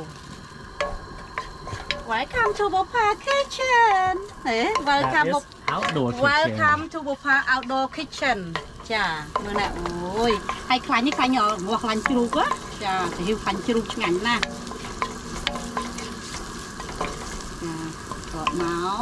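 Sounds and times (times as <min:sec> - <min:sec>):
food sizzling in hot oil: 0:00.0 - 0:19.0
wooden spoon stirring: 0:00.5 - 0:06.4, 0:07.6 - 0:19.0.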